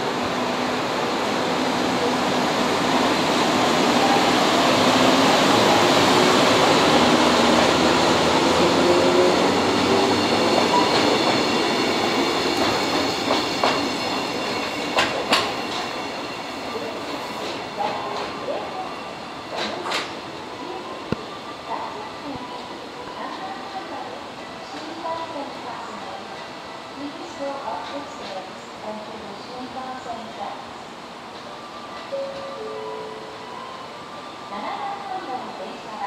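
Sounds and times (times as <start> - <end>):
train rolling past: 0.0 - 36.0.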